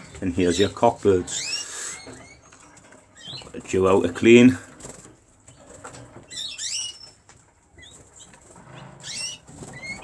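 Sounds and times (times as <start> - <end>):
canaries chirping: 0.0 - 10.0.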